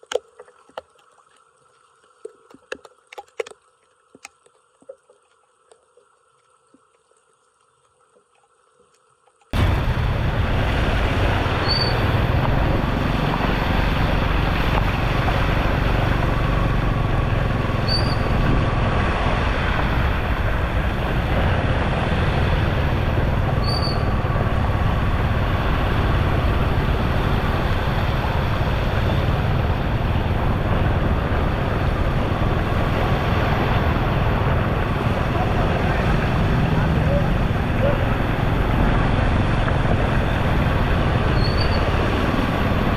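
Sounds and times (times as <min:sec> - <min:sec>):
water rushing into drain: 0:00.0 - 0:42.9.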